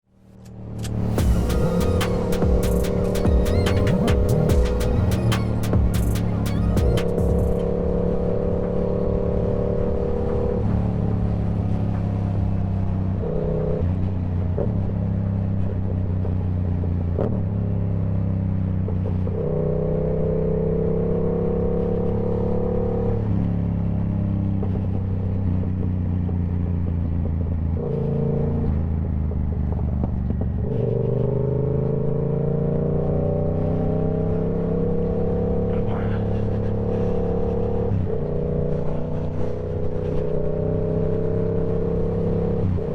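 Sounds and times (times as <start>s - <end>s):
motorcycle engine cruising: 0.2s - 42.9s.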